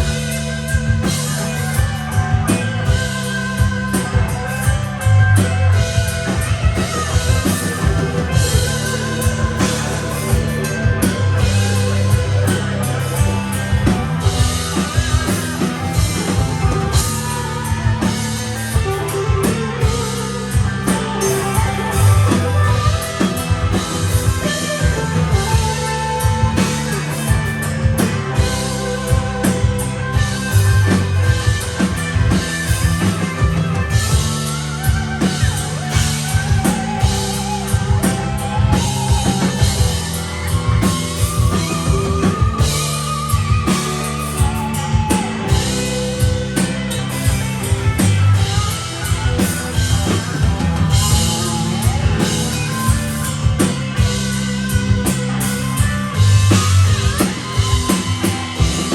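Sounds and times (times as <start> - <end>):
bass: 0.0 - 58.9
drum kit: 0.0 - 58.9
electric guitar: 0.0 - 58.9.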